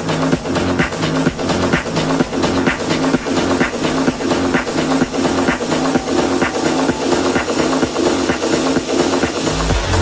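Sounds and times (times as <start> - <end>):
techno music: 0.0 - 10.0.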